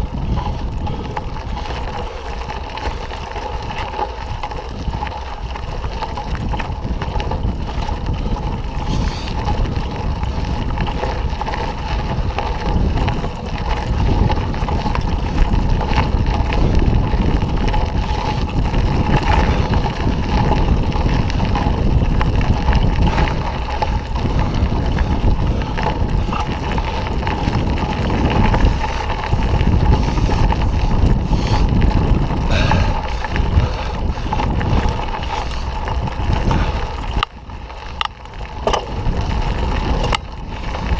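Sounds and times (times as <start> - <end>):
bike rattles and knocks: 0.0 - 40.9
tyres rumbling on dirt: 0.0 - 40.9
wind buffeting microphone: 0.0 - 40.9.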